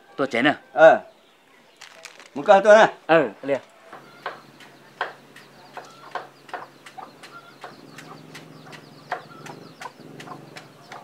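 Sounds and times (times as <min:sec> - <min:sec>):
chickens clucking: 0:01.5 - 0:11.0.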